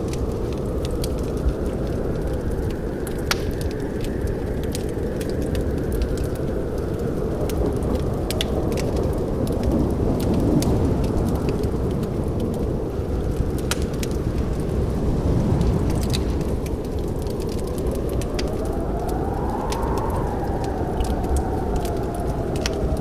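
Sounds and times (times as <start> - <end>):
burning wood crackling and popping: 0.0 - 23.0
low rumble of flame: 0.0 - 23.0.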